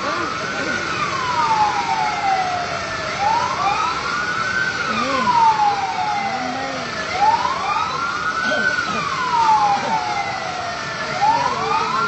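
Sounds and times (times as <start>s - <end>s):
fire engine siren wailing: 0.0s - 12.0s.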